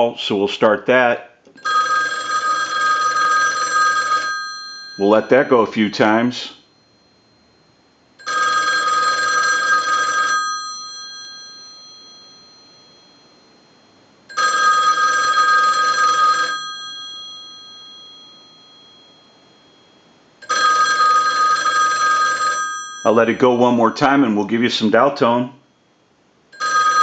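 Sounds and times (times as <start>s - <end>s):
payphone bells ringing: 1.6s - 24.0s, 26.5s - 27.0s.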